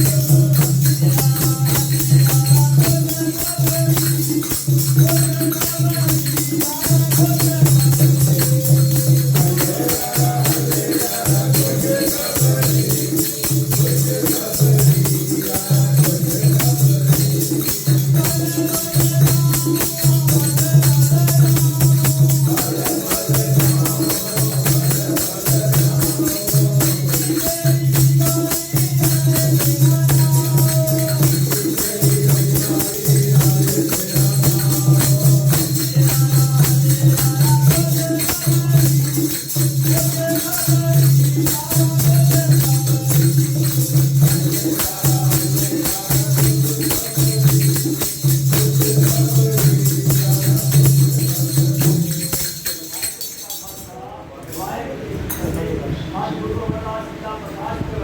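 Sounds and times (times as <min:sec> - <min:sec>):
jingling percussion: 0:00.0 - 0:55.6.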